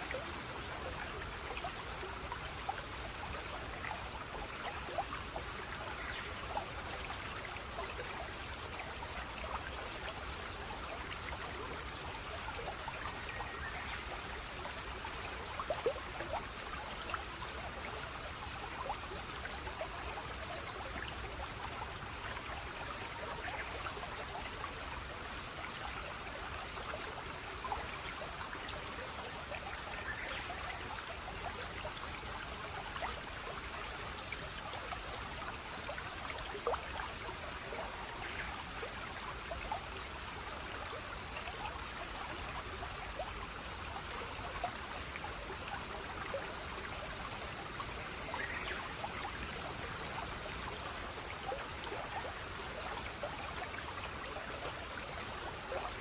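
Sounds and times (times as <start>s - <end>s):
small water splashes: 0.0s - 56.0s
stream trickling over stones: 0.0s - 56.0s.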